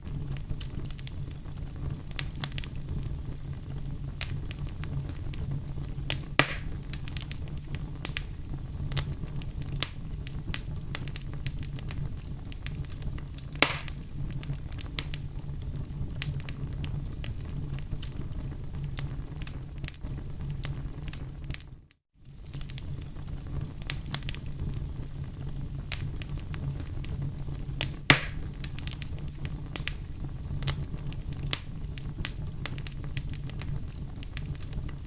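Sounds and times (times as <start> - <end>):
campfire crackling: 0.0 - 35.0
wood fire popping: 0.0 - 35.0.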